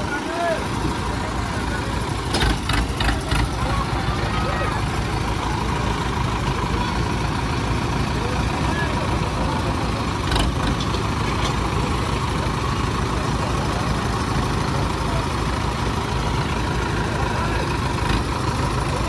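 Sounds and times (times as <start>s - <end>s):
diesel tractor engines running: 0.0s - 19.0s.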